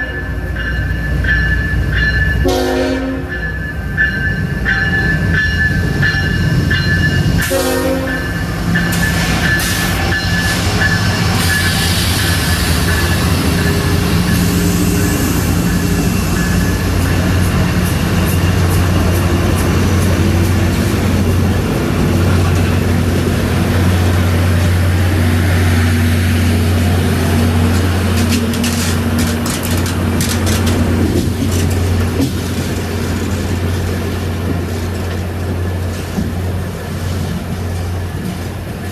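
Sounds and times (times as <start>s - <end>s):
locomotive engine drone: 0.0s - 38.9s
rail and car noise: 0.0s - 38.9s
wheels clicking on track: 4.2s - 38.9s.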